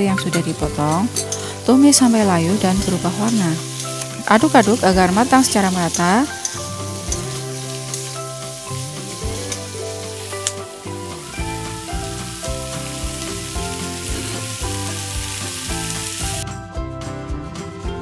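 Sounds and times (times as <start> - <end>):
background music: 0.0 - 18.0
hot oil sizzling in a wok: 0.6 - 16.4.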